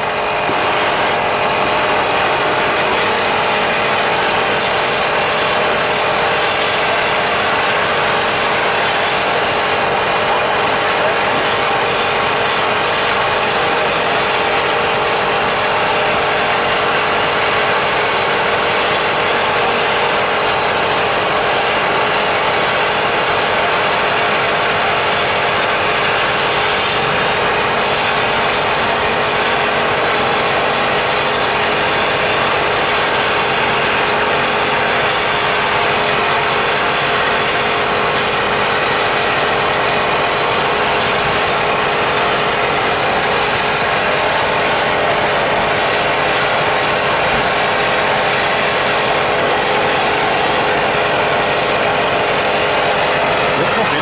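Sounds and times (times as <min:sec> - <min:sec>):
machine hissing and humming: 0:00.0 - 0:54.0.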